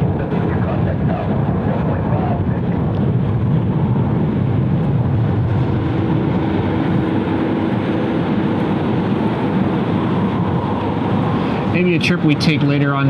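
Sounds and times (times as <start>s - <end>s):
faint steady hum: 0.0s - 13.0s
jet engine rumble: 0.0s - 13.0s.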